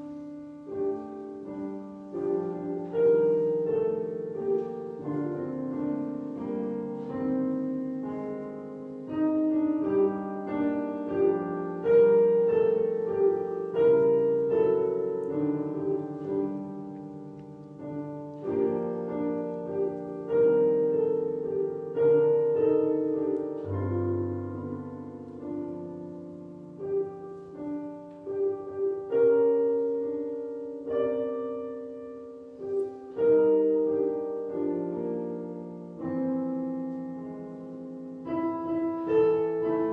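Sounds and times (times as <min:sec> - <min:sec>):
slow piano prelude: 0:00.0 - 0:39.9.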